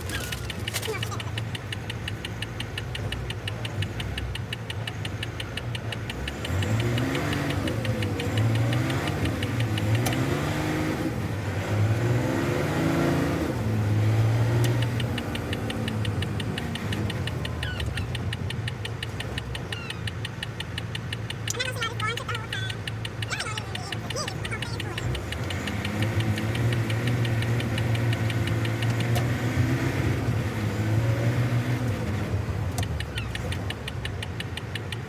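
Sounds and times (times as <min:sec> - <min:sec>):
truck diesel engine revving: 0:00.0 - 0:35.0.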